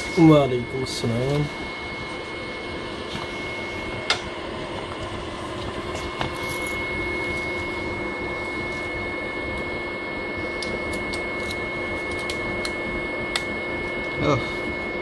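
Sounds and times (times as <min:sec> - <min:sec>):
high whine: 0:00.0 - 0:15.0
photocopier fans whirring: 0:00.0 - 0:15.0.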